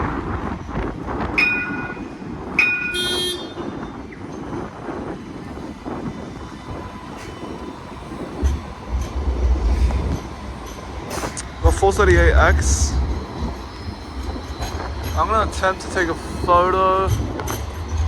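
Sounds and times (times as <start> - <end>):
tram warning bell dinging: 0.6 - 18.0.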